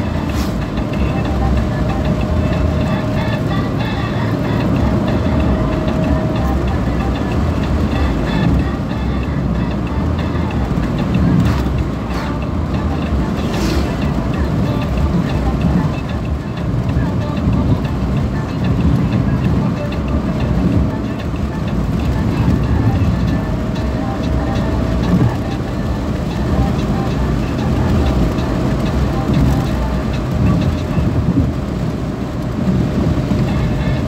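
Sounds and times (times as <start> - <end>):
car tyres and engine rumble: 0.0 - 34.0.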